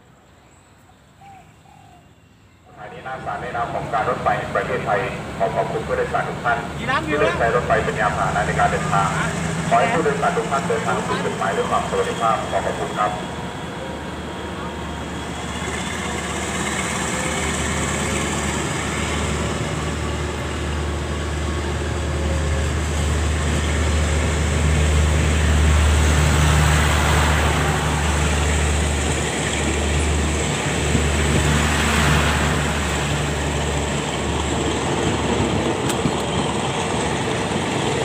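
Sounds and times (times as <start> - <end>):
diesel locomotive engine drone: 2.0 - 38.0.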